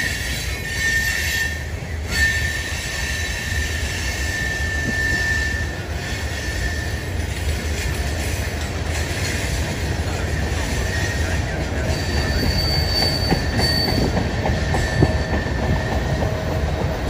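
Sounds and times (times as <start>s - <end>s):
train cars rumbling: 0.0s - 17.0s
train wheel squeal: 0.0s - 17.0s.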